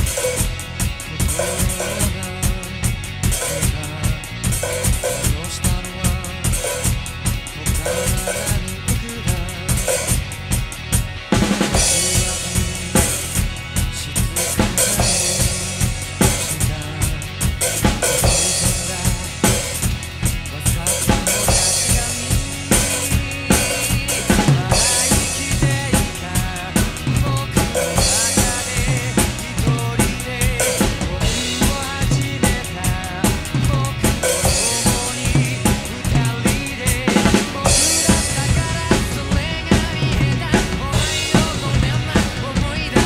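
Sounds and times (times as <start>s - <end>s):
drum kit rock beat: 0.0s - 43.0s
rock song with vocals: 0.0s - 43.0s.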